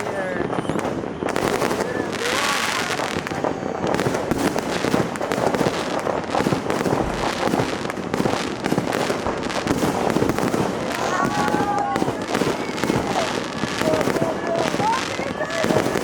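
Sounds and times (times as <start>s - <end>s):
fireworks and firecrackers banging: 0.0s - 16.0s.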